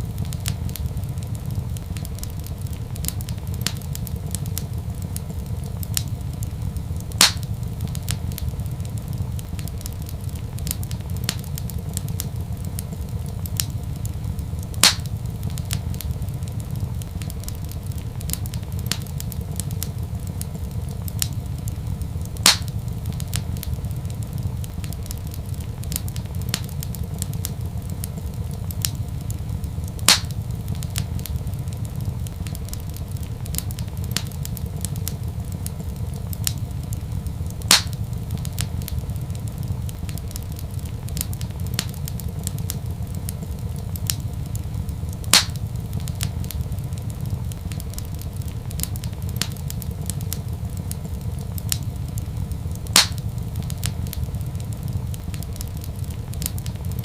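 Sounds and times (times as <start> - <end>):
wood fire crackling: 0.0 - 57.0
sharp pop from fire: 0.2 - 36.6, 37.2 - 43.0, 45.2 - 50.5, 52.4 - 57.0.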